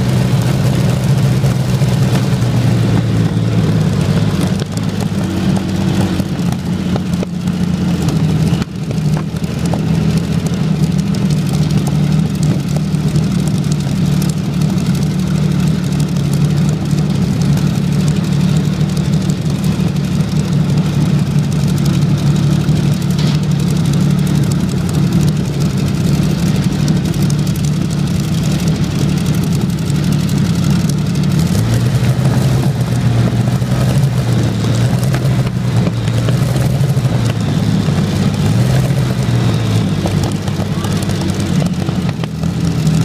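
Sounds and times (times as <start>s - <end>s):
tank engine running: 0.0s - 43.0s.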